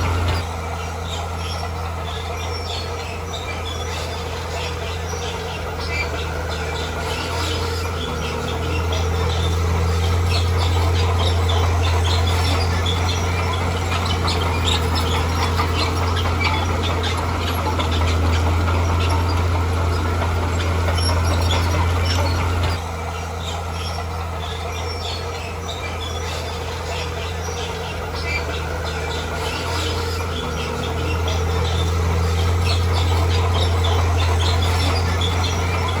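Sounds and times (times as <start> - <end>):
birds chirping: 0.0 - 36.0
diesel engine running: 0.0 - 36.0.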